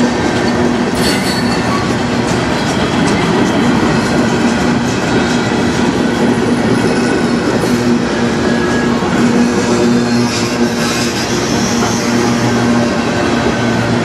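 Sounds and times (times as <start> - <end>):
steel wheels on rails: 0.0 - 14.0.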